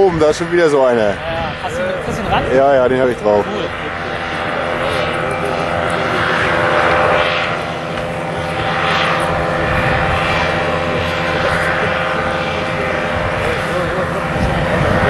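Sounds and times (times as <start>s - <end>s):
paramotor engine and propeller droning: 0.0s - 15.0s.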